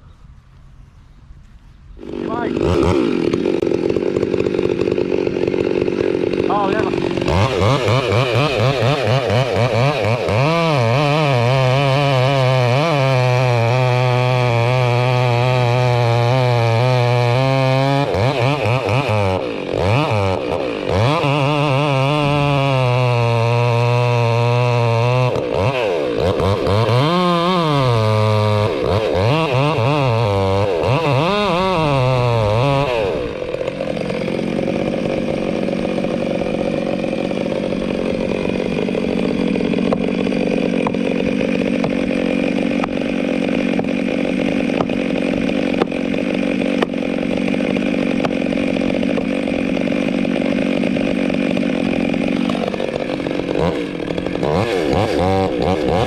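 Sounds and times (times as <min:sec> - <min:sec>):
chainsaw cutting wood: 0:02.0 - 0:56.0
chainsaw revving: 0:02.0 - 0:56.0.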